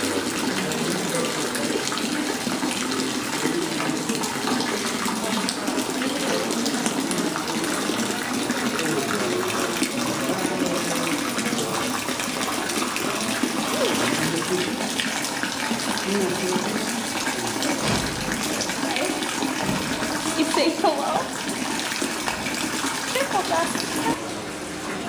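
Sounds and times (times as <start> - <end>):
water splashing into pond: 0.0 - 24.3
faint murmur of voices: 0.0 - 25.0.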